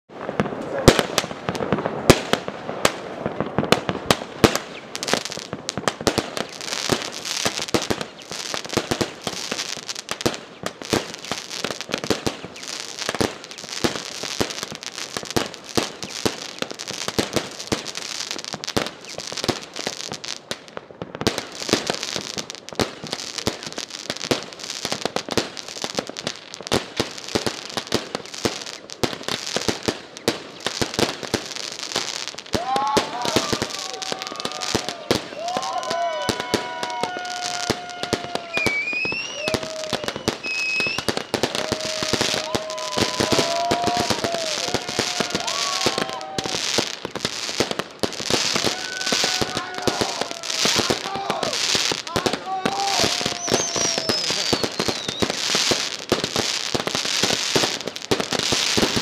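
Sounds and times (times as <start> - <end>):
fireworks and firecrackers barrage: 0.1 - 59.0.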